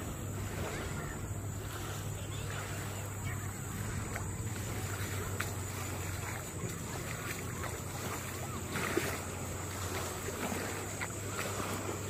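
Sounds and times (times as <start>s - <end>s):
motorboat engine drone: 0.0s - 12.0s.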